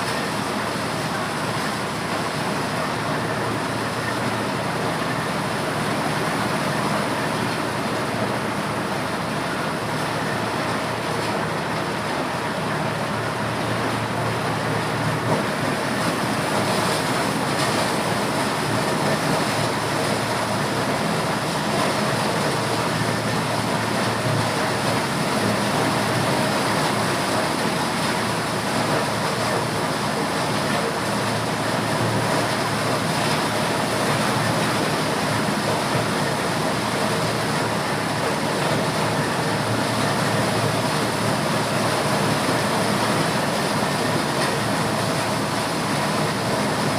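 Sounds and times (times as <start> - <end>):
corn sheller machine running: 0.0 - 46.9.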